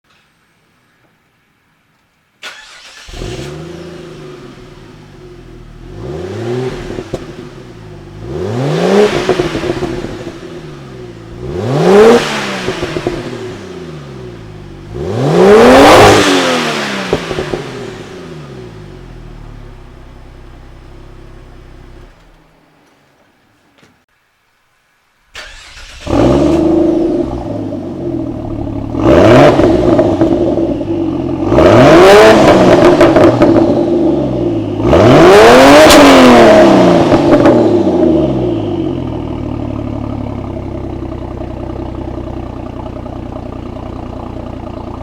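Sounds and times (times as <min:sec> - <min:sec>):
car engine idling and revving: 0:02.6 - 0:22.5, 0:25.4 - 0:45.0.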